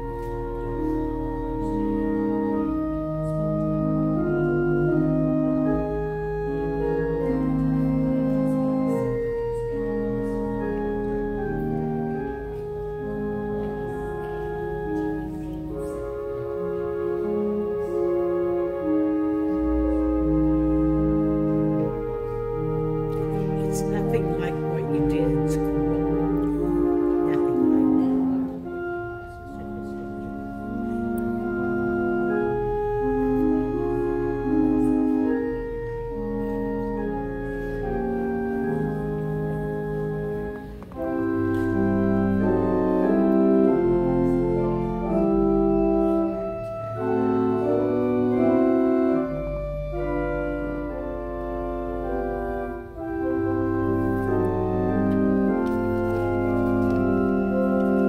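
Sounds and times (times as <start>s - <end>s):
organ playing chords: 0.0s - 58.0s.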